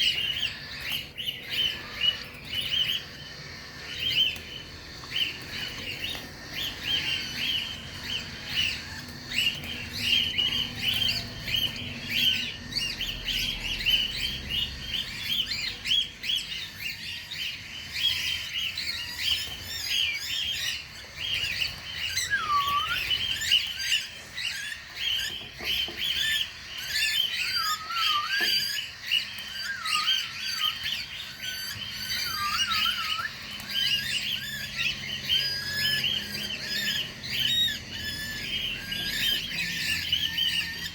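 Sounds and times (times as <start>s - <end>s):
cockatiels chirping: 0.0s - 40.9s.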